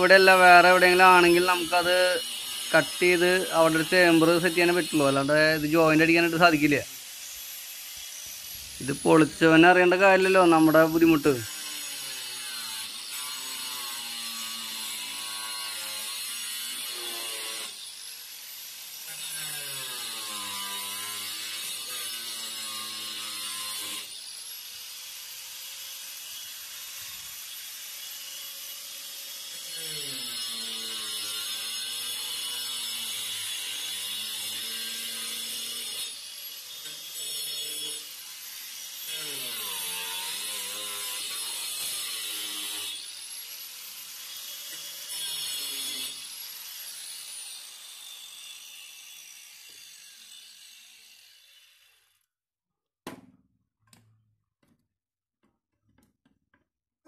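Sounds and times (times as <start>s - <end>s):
angle grinder cutting plastic pipe: 0.0s - 52.4s.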